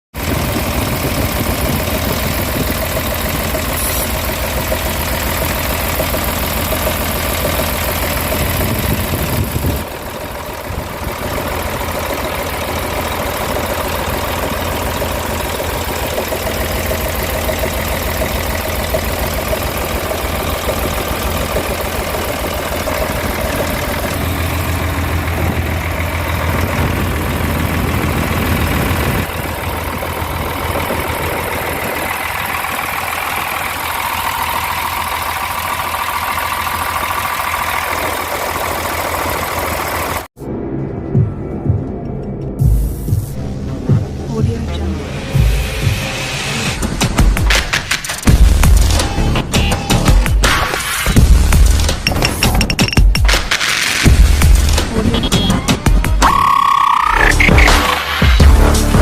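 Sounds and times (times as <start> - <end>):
engine knocking: 0.0 - 40.3, 45.4 - 59.0
diesel engine idling: 0.0 - 40.4, 43.3 - 59.0.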